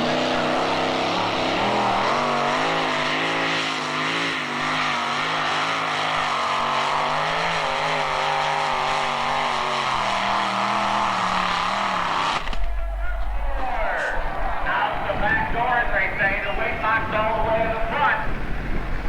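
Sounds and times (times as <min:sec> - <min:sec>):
truck engine revving under load: 0:00.0 - 0:15.6.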